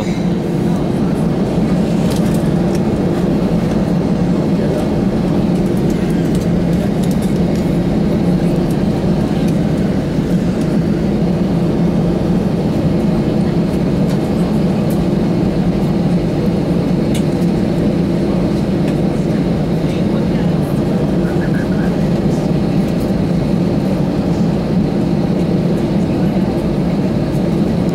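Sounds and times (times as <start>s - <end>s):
airplane cabin hum: 0.0s - 27.9s.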